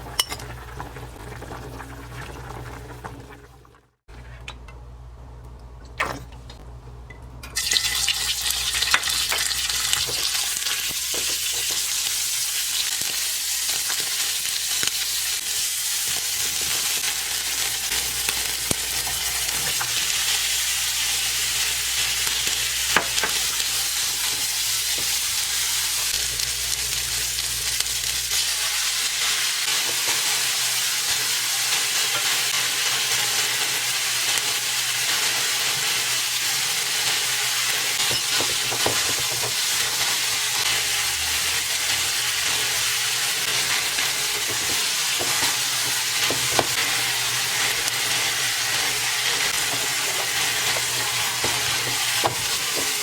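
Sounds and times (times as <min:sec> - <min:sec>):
food sizzling in frying pan: 0:07.6 - 0:53.0.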